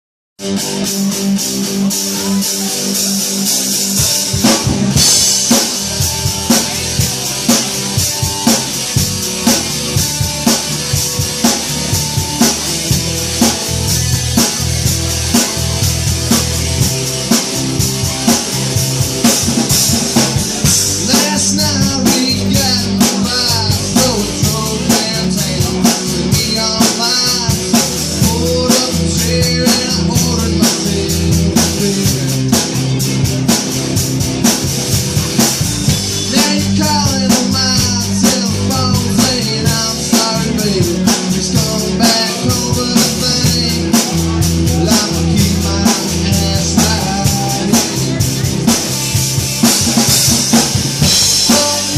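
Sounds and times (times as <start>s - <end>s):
drum kit beat: 0.4s - 51.9s
guitar: 0.4s - 51.9s
live band playing: 0.4s - 51.9s.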